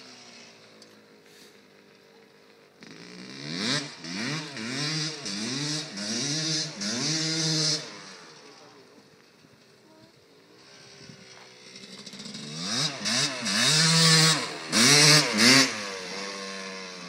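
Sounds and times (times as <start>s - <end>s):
dirt bike engine revving: 2.7s - 17.0s.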